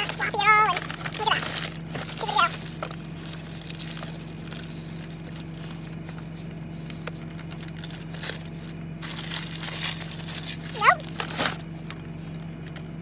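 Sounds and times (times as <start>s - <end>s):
paper wrapper rustling: 0.0s - 6.2s, 7.1s - 11.6s
car cabin hum: 0.0s - 13.0s.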